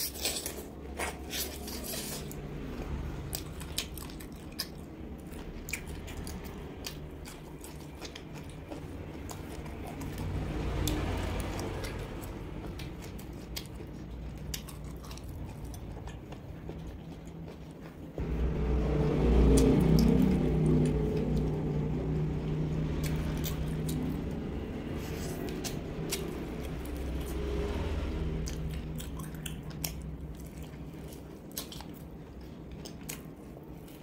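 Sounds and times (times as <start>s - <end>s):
chewing crunches: 0.0s - 18.2s, 22.8s - 27.7s, 28.4s - 34.0s
low rumble: 0.7s - 17.5s, 18.1s - 34.0s.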